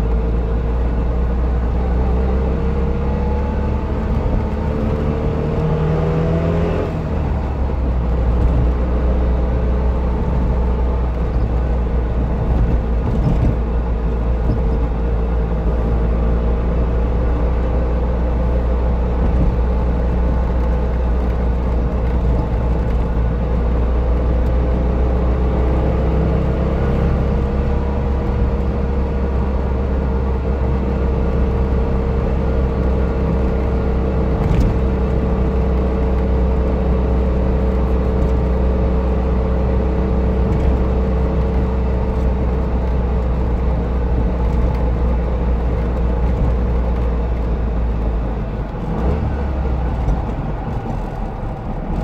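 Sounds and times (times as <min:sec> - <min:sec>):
car engine droning: 0:00.0 - 0:52.0
road rumble: 0:00.0 - 0:52.0.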